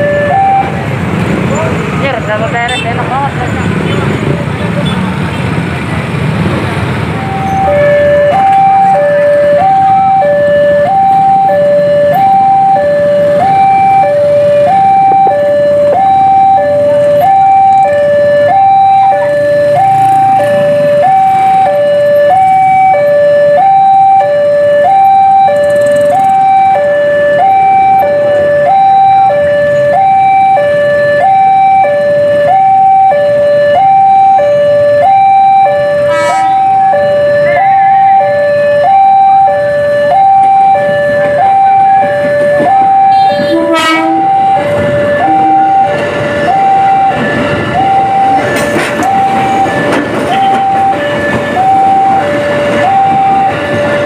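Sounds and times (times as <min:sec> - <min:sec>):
level crossing two-tone alarm: 0:00.0 - 0:00.8, 0:07.1 - 0:54.0.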